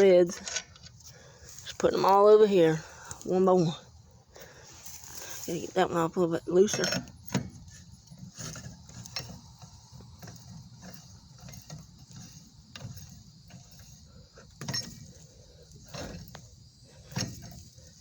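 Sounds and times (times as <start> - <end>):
lug wrench metallic clicks and scrapes: 0.0 - 3.6, 4.4 - 18.0.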